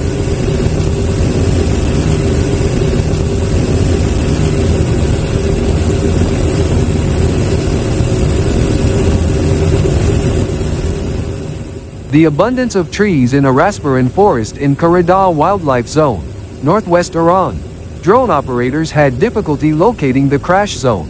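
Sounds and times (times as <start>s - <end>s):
loud engine drone: 0.0s - 21.0s.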